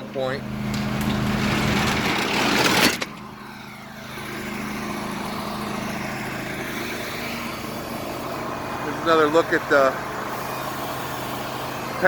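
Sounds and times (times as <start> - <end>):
motor humming: 0.4 - 12.0.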